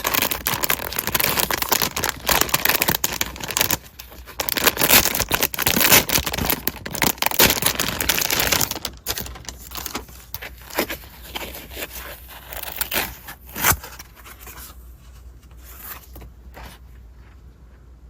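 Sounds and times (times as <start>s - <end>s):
packaging rustling and tearing: 0.0s - 14.8s.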